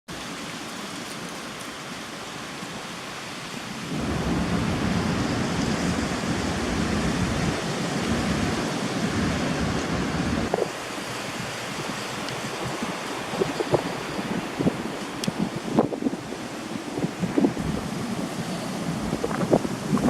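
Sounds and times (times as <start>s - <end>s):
rain and wind hissing: 0.1s - 20.0s
wind buffeting microphone: 3.8s - 20.0s.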